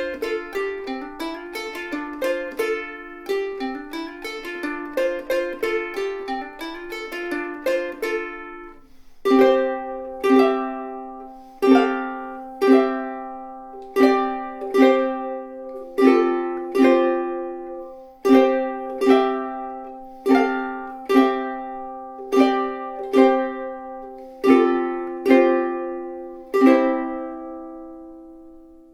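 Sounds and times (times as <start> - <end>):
ukulele fingerpicked notes: 0.0 - 28.9
ukulele strummed chords: 0.0 - 28.9.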